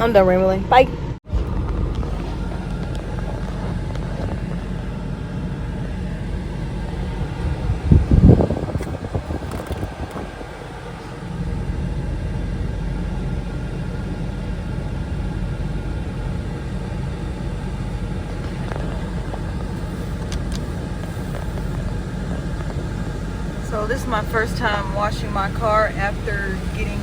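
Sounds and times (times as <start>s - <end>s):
car interior rumble: 0.0s - 27.0s.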